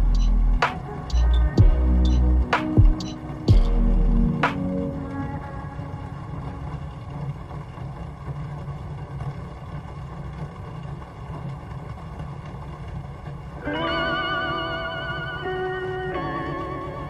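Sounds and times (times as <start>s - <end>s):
rain with low rumble: 0.0s - 17.0s.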